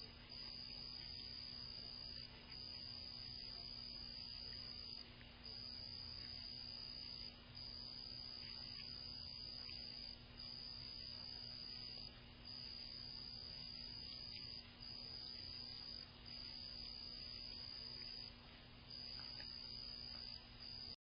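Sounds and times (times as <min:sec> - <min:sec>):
cricket trilling: 0:00.0 - 0:21.0
faint low hum: 0:00.0 - 0:21.0.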